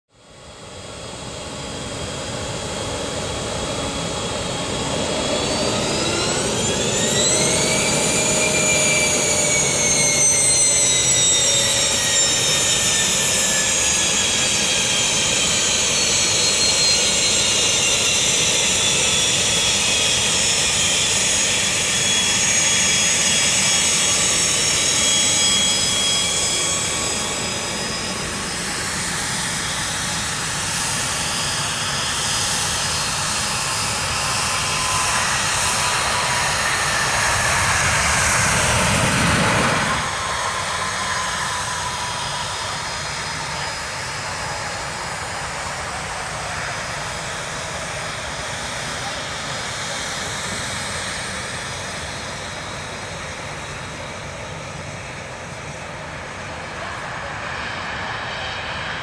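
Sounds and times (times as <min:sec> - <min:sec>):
jet engines whining: 0:00.2 - 0:59.0.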